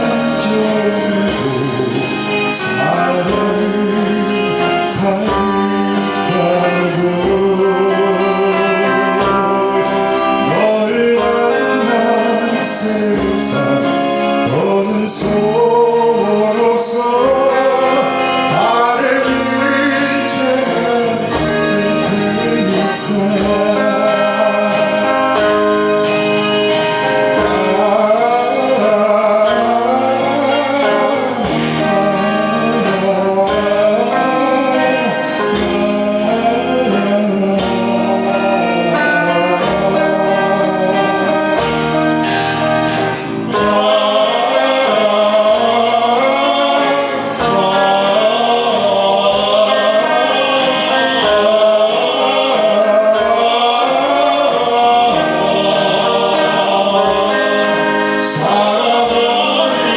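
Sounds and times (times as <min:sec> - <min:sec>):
guitar: 0:00.0 - 0:59.9
live band playing: 0:00.0 - 0:59.9
man singing lead: 0:00.0 - 0:59.9.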